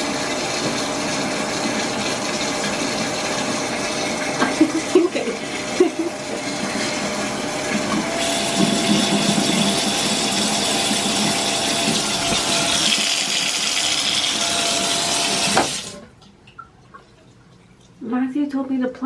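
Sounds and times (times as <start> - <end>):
shower water spraying into tub: 0.0 - 16.1
drain draining: 0.0 - 18.0.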